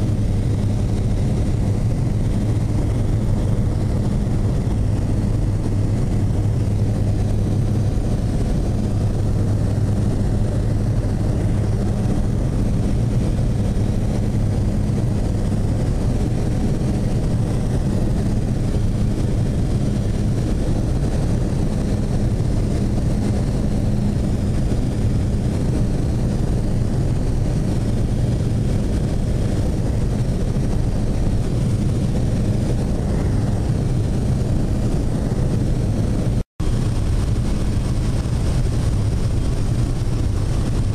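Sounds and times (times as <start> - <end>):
plane engine and propeller drone: 0.0 - 40.9.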